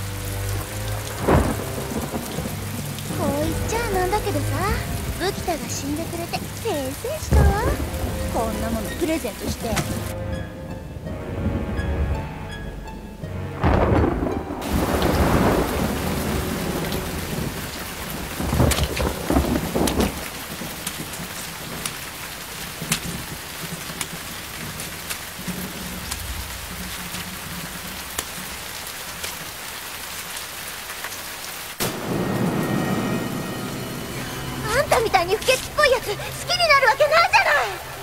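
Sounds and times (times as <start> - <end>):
thunder rolling: 0.0 - 10.1, 13.4 - 29.6, 31.8 - 38.0
steady rain hissing: 0.0 - 38.0.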